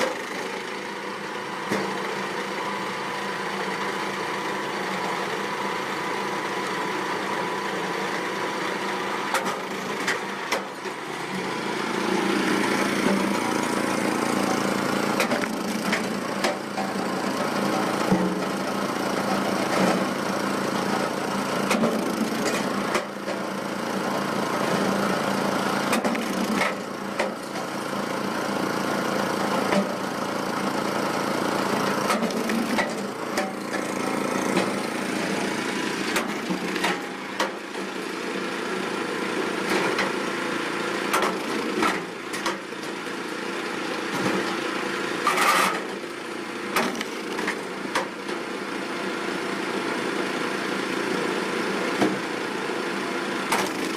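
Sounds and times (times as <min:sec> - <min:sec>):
firewood machine engine running: 0:00.0 - 0:53.9.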